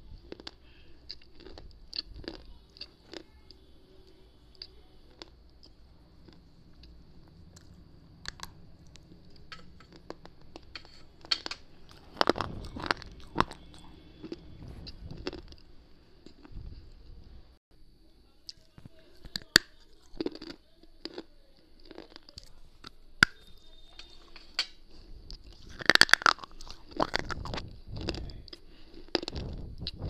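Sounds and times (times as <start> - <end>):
crunching and chewing: 0.0 - 17.2, 18.4 - 30.0.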